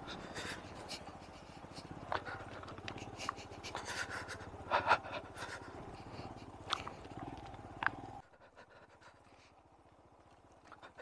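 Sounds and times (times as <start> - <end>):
motorcycle engine low speed: 0.0 - 11.0.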